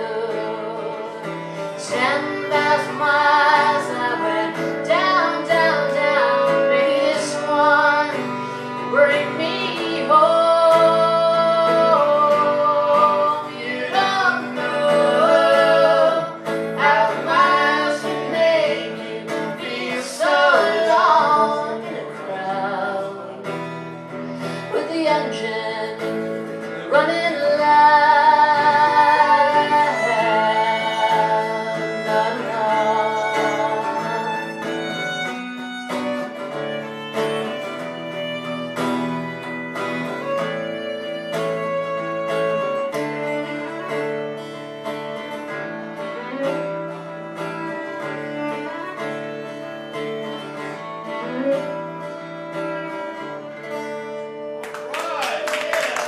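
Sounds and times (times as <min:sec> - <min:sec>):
live country band with guitar and fiddle: 0:00.0 - 0:56.0.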